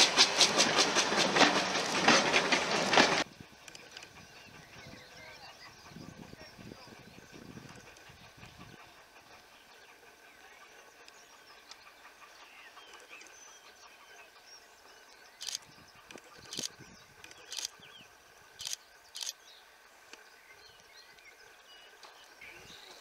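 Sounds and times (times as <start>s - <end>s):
birds chirping and singing: 3.2s - 23.0s.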